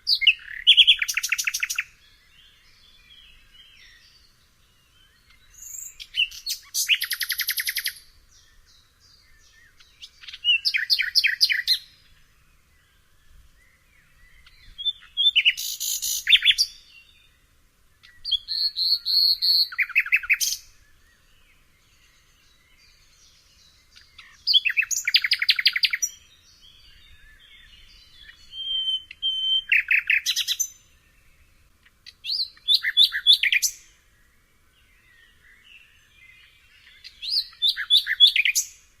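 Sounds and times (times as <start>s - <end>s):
nightingale singing: 0.0s - 39.0s.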